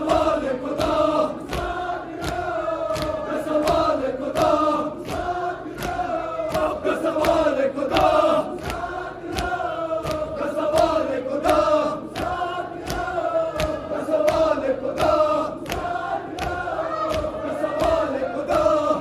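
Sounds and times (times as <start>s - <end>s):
men chanting in unison: 0.0s - 19.0s
hand slaps on chest: 0.8s - 18.7s.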